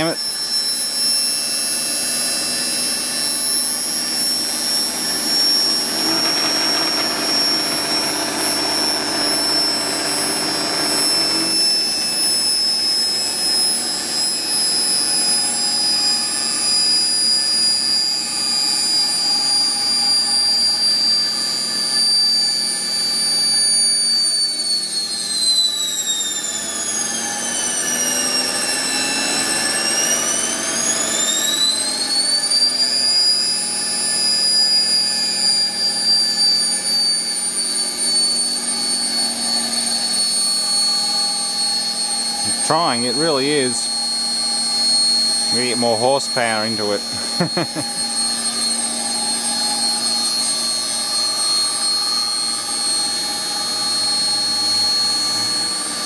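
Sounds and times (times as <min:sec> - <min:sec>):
high-pitched machine whine: 0:00.0 - 0:56.0.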